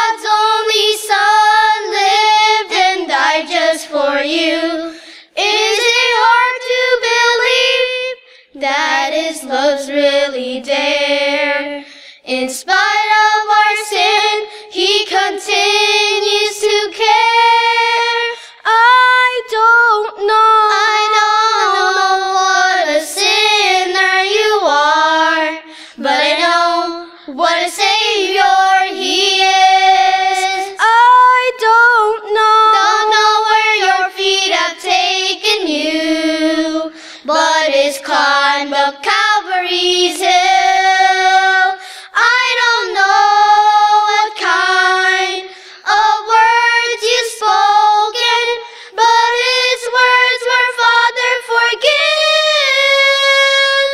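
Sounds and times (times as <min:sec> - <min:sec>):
girl singing gospel song: 0:00.0 - 0:53.9.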